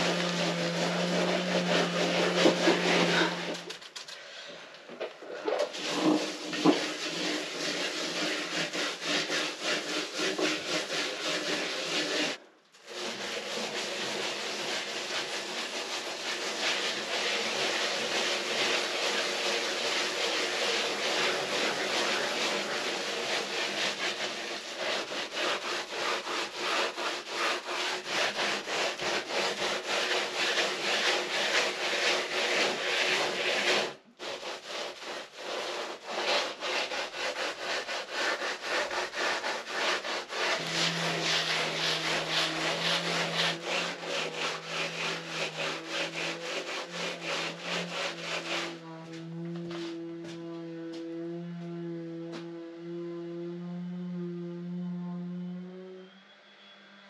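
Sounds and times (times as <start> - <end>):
trowel scraping plaster: 0.0 - 50.4.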